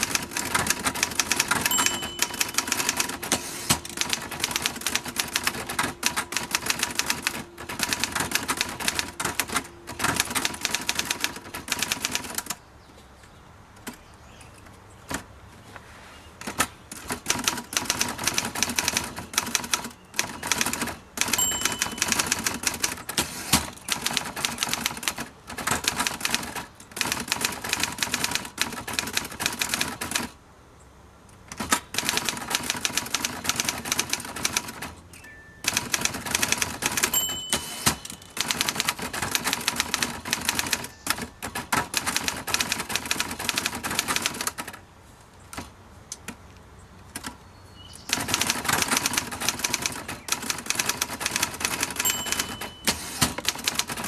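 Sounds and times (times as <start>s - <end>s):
typewriter carriage return: 0.0s - 12.6s, 16.4s - 30.4s, 31.5s - 35.0s, 35.6s - 44.8s, 48.1s - 54.0s
typewriter keystrokes clacking: 0.0s - 12.6s, 16.4s - 30.4s, 31.5s - 35.0s, 35.6s - 44.8s, 48.1s - 54.0s.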